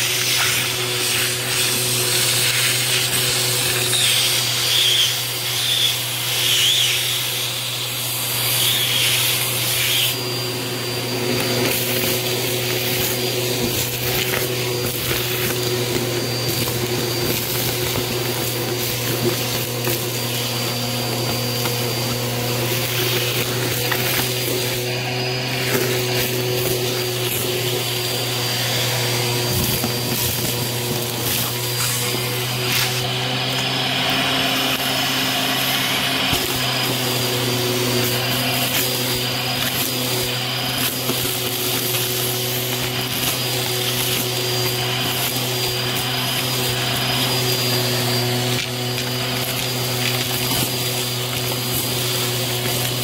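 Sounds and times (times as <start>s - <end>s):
debris crackling in hose: 0.0s - 53.0s
vacuum cleaner running: 0.0s - 53.0s.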